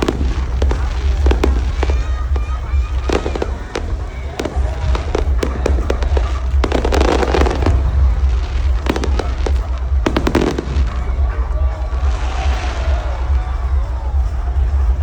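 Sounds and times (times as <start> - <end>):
fireworks crackling pops: 0.0 - 14.6
low rumble: 0.0 - 15.0.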